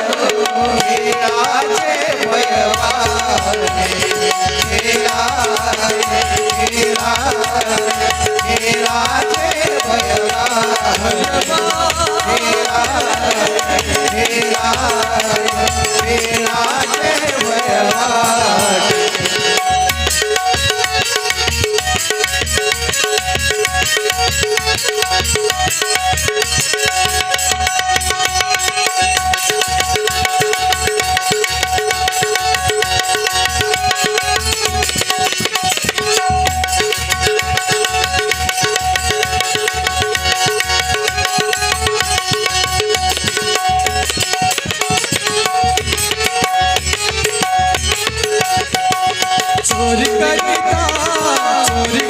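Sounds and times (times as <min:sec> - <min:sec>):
hand drums beating: 0:00.0 - 0:52.0.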